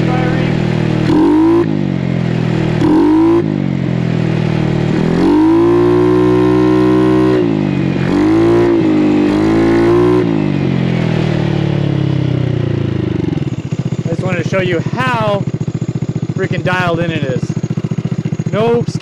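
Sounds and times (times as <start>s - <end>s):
scooter engine revving: 0.0s - 19.0s.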